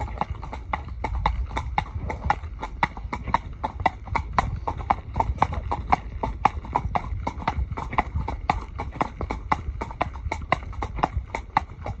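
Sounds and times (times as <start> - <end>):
horse hooves on pavement: 0.0 - 12.0.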